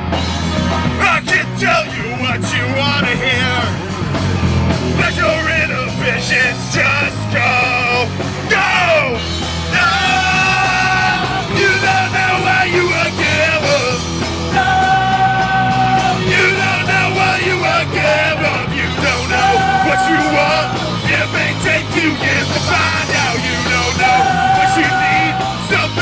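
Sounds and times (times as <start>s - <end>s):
punk rock band playing: 0.0s - 26.0s
singer shouting and singing: 0.9s - 3.9s, 4.9s - 26.0s.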